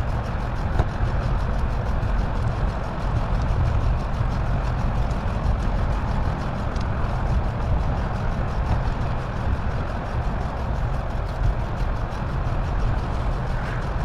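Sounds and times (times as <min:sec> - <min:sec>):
bicycle road noise: 0:00.0 - 0:14.0
wind rumble: 0:00.0 - 0:14.0.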